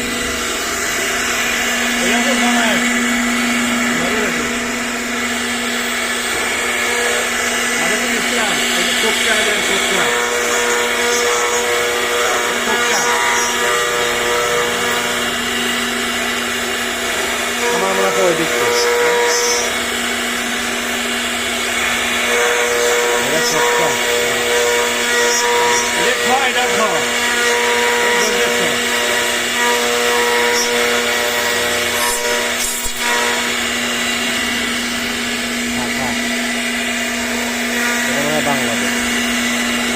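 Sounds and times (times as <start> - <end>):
cutter rasping through material: 0.0 - 39.9
router spindle whine: 0.0 - 39.9.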